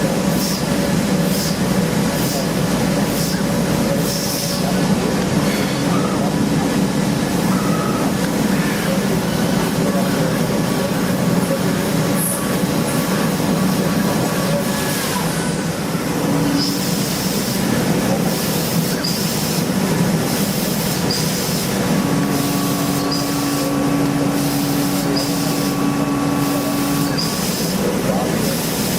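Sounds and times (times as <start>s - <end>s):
cnc machine running: 0.0s - 28.9s
steady hum: 0.0s - 28.9s.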